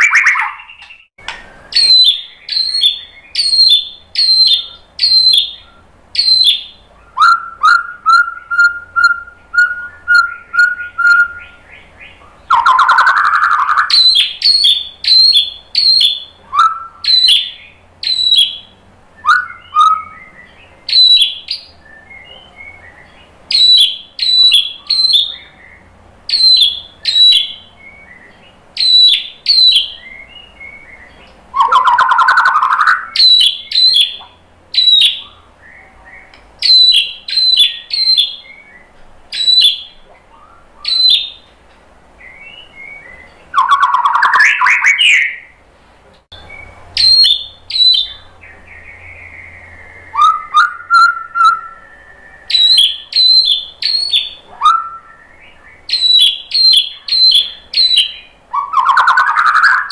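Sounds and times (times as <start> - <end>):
bird calling high sharp notes: 0.0 - 1.1, 1.7 - 41.5, 42.2 - 45.5, 46.4 - 59.9.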